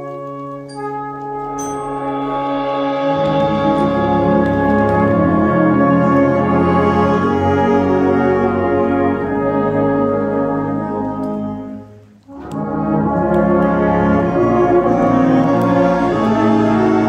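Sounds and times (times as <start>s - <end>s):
brass band playing sustained chords: 0.0s - 17.0s.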